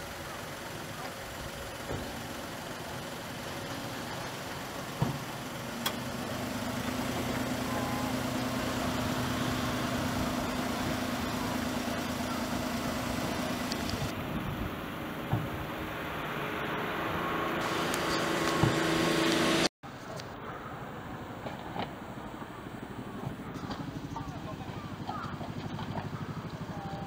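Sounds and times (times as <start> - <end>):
engine idling: 0.0 - 19.7, 21.9 - 27.0.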